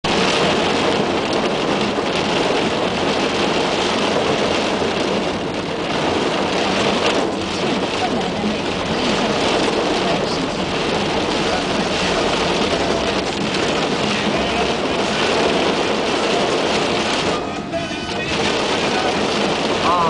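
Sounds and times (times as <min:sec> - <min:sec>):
car running and road noise: 0:00.0 - 0:20.0
heavy rain on a car: 0:00.0 - 0:20.0.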